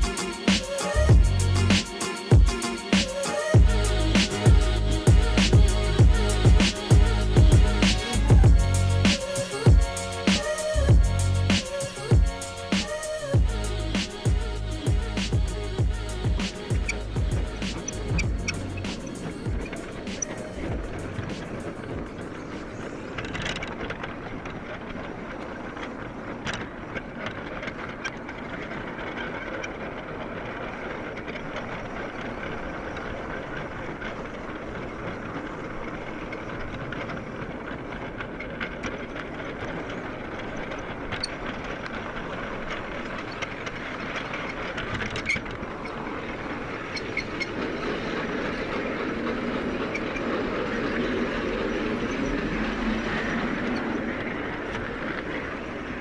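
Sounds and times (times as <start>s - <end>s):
model train wheels rumbling: 3.6s - 56.0s.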